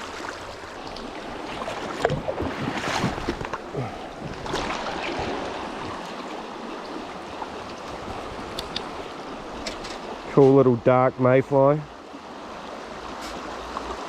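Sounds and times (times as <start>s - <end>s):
river water running: 0.0s - 14.0s
water splashes: 0.0s - 14.0s.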